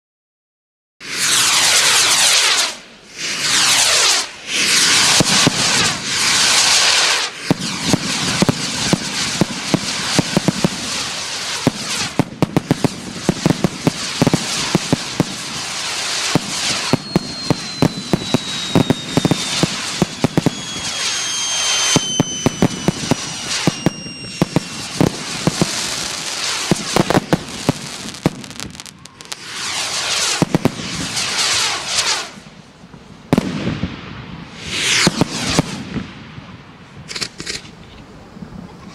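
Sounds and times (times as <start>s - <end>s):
fireworks hissing: 1.0s - 37.7s
fireworks whistling: 1.0s - 37.7s
fireworks crackling and banging: 1.0s - 37.9s.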